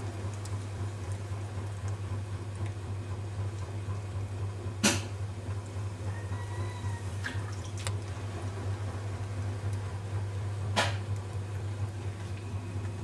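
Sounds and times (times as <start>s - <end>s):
potter's wheel humming: 0.0s - 13.0s.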